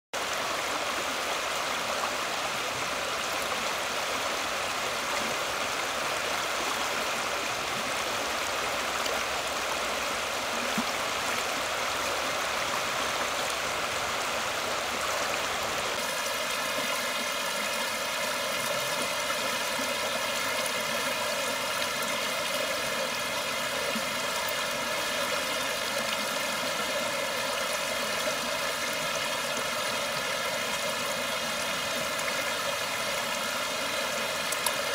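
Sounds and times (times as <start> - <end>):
river water running over rocks: 0.2 - 34.9.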